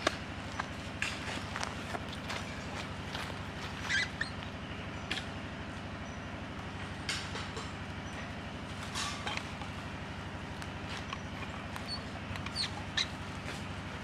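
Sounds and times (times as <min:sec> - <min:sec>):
low pulsing motor drone: 0:00.0 - 0:14.0.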